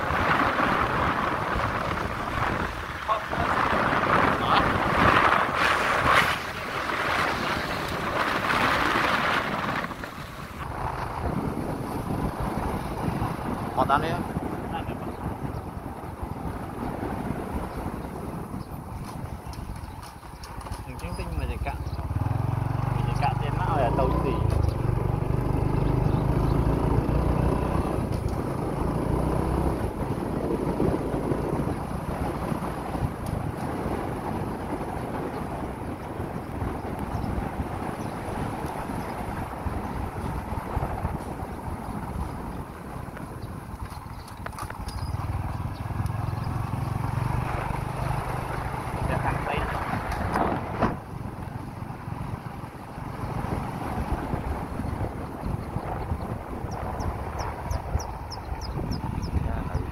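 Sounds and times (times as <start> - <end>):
wind buffeting microphone: 0.0 - 59.9
motorbike engine running: 10.6 - 59.9.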